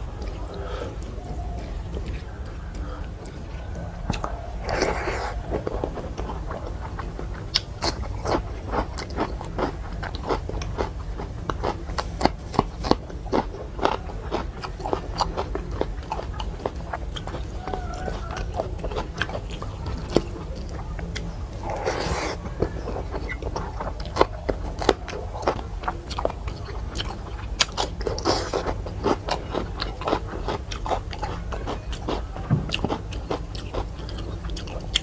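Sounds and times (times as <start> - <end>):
wet chewing and lip-smacking: 0.1 - 35.0.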